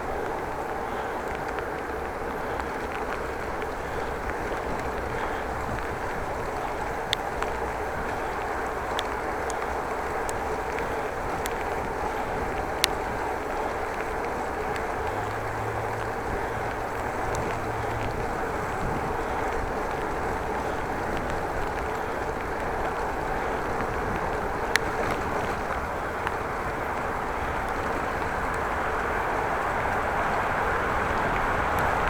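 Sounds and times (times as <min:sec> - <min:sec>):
bicycle road noise: 0:00.0 - 0:32.0
wind on microphone: 0:03.2 - 0:32.0.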